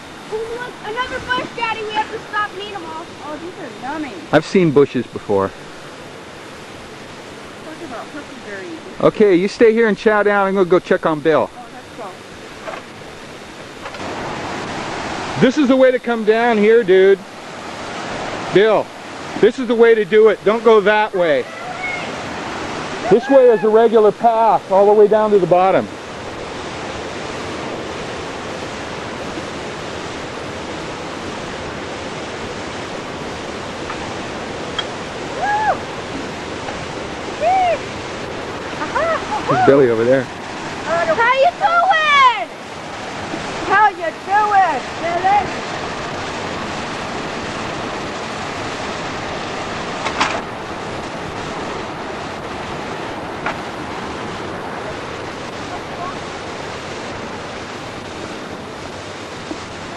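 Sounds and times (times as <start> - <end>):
waterfall and river rushing: 0.0 - 59.9.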